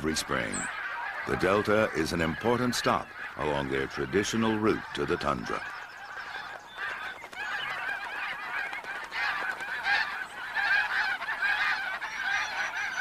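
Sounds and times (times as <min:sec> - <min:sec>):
flock of geese honking: 0:00.0 - 0:13.0.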